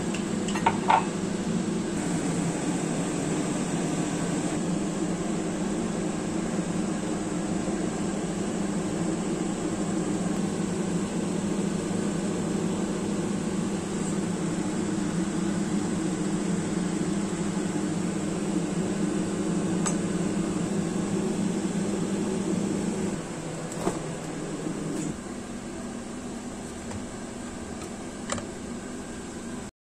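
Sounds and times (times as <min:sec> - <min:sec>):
fan appliance whirring hum: 0:00.0 - 0:29.7.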